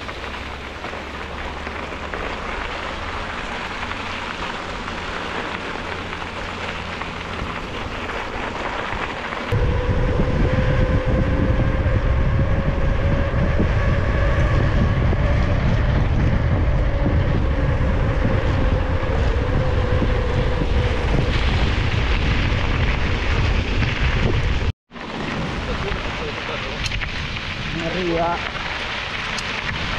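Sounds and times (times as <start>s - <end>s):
tyres rolling on dirt road: 0.0s - 29.9s
wind buffeting microphone: 0.0s - 29.9s.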